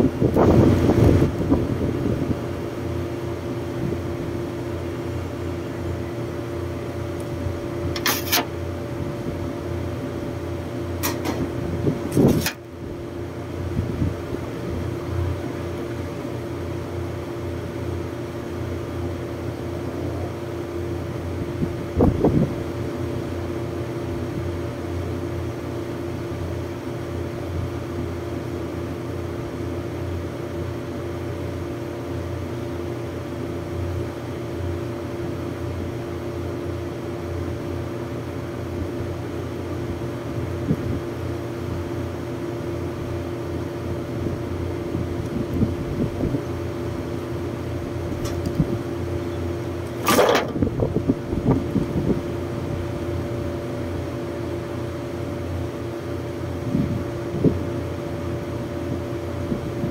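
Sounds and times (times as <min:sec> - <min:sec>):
air conditioning units humming: 0:00.0 - 0:59.9.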